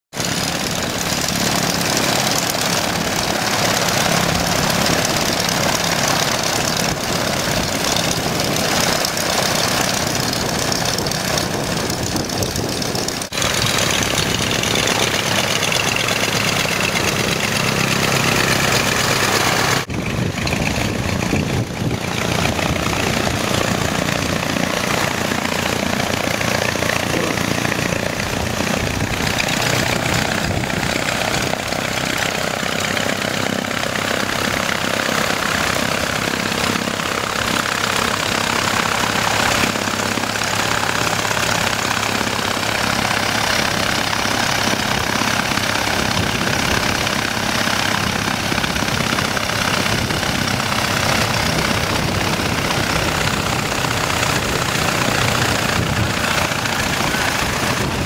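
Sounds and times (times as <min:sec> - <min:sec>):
small piston engine running: 0:00.2 - 0:58.0.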